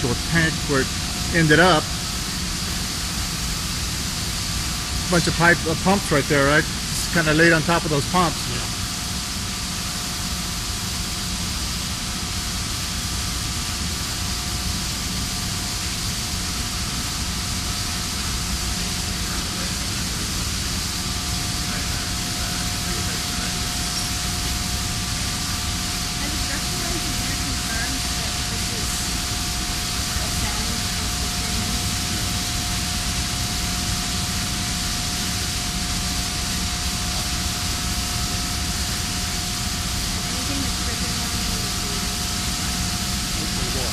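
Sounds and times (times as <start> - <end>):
faint steady whine: 0.0 - 43.9
industrial machinery hiss and rumble: 0.0 - 43.9.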